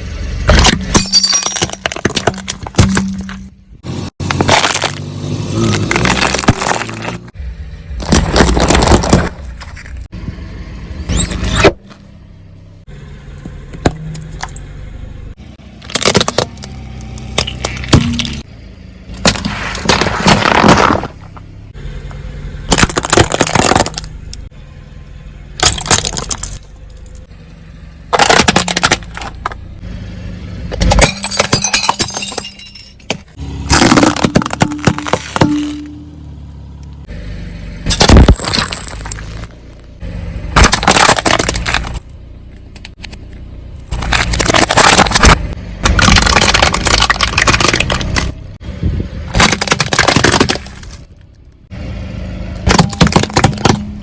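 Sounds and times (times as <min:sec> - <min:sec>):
objects crunching under car tyres: 0:00.4 - 0:10.1, 0:15.5 - 0:18.5, 0:19.1 - 0:24.5, 0:25.5 - 0:27.3, 0:28.1 - 0:29.8, 0:30.6 - 0:37.1, 0:37.8 - 0:51.7, 0:52.6 - 0:54.0.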